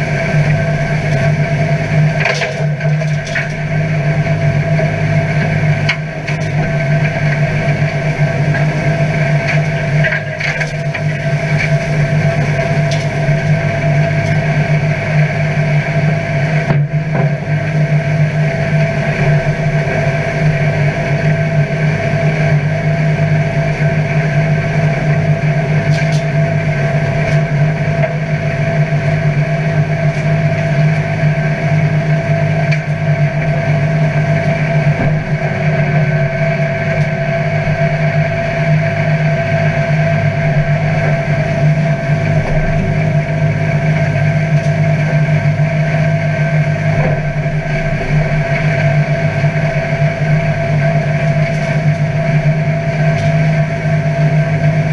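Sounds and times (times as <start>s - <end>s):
tractor diesel engine drone: 0.0s - 54.9s.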